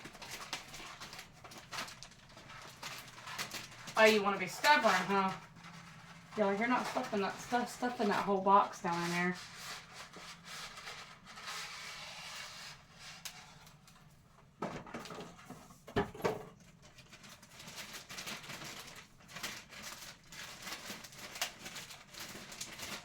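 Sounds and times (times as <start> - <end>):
rustling of food packages: 0.0 - 23.0.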